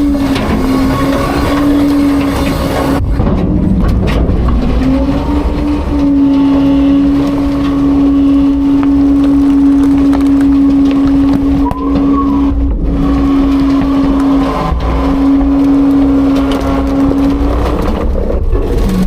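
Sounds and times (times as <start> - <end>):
garbage truck hydraulics running: 0.0 - 19.0.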